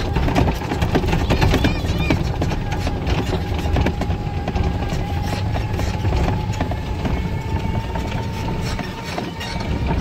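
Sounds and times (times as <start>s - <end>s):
vehicle engine rumble: 0.0s - 10.0s
vehicle frame rattling and knocking: 0.0s - 10.0s.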